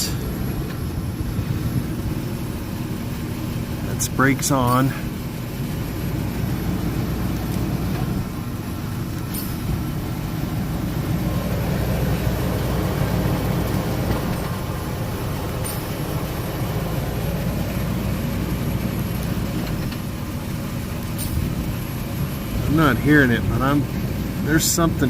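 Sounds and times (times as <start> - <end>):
car drivetrain droning: 0.0 - 25.0.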